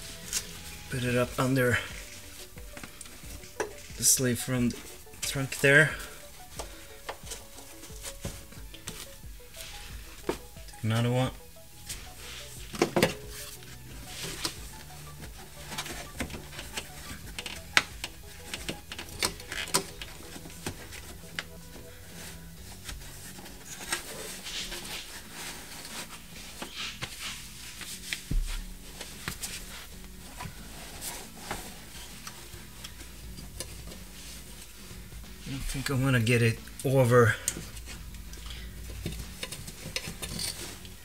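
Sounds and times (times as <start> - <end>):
fabric rustling: 0.0 - 41.0.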